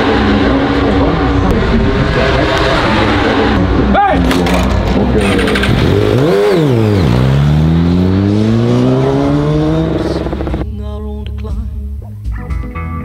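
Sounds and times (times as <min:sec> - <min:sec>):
motorcycle engine accelerating: 0:00.0 - 0:10.7.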